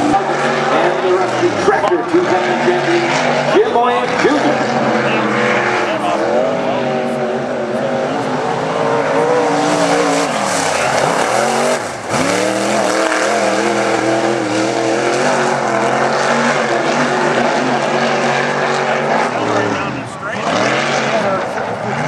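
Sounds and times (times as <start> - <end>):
race car engine running hard: 0.0 - 22.0.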